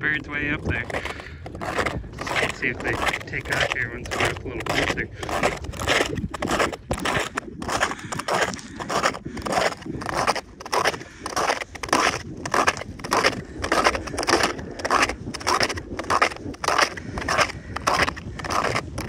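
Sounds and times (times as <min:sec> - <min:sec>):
snowshoes crunching through snow: 0:00.7 - 0:19.0.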